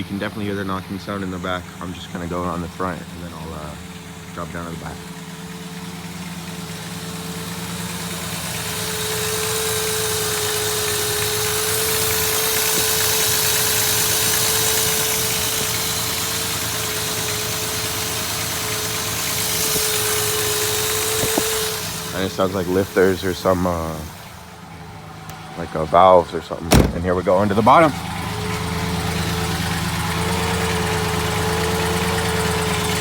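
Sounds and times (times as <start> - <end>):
engine idling with ticking: 0.0 - 33.0.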